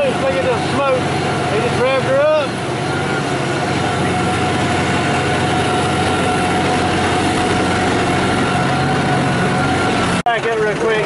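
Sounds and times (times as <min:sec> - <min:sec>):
high engine whine: 0:00.0 - 0:11.0
tractor diesel engine running: 0:00.0 - 0:11.0.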